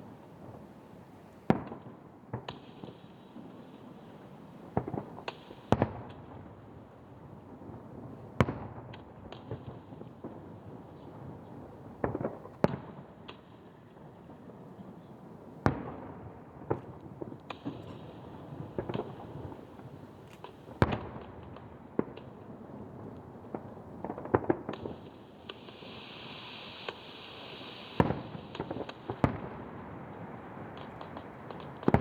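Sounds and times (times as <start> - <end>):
firework pops and crackles: 1.4 - 32.0.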